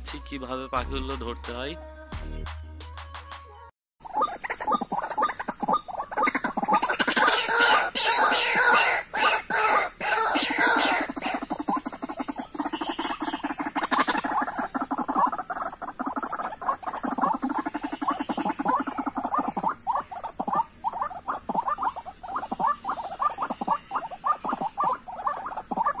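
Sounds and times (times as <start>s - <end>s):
waterhen croaking calls: 4.0s - 26.0s.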